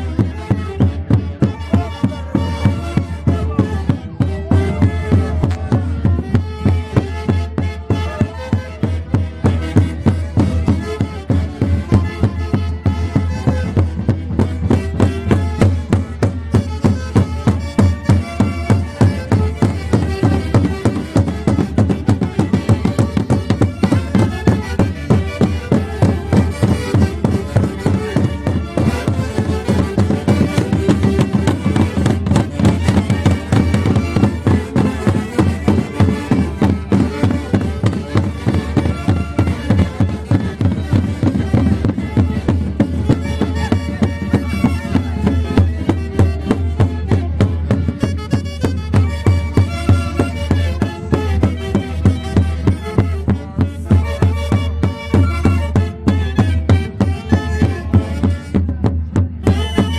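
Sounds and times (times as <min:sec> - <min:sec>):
reed winds and violins melody: 0:00.0 - 0:58.8
steady beat: 0:00.0 - 0:59.9.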